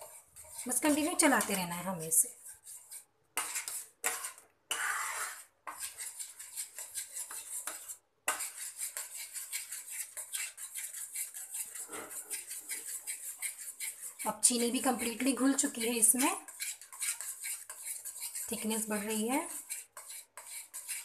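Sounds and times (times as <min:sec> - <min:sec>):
steel spoon scraping a pan: 0:00.0 - 0:21.0.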